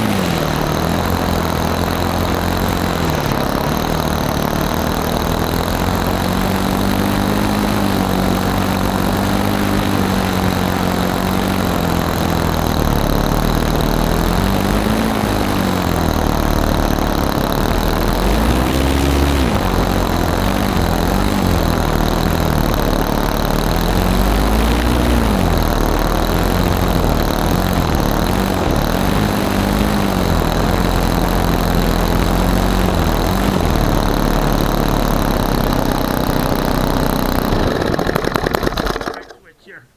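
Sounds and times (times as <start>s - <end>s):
model airplane engine running: 0.0s - 39.7s.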